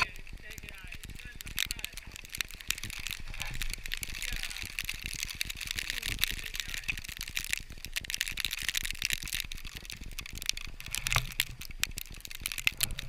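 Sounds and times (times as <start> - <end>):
rapid clicking and crackling: 0.0 - 13.0.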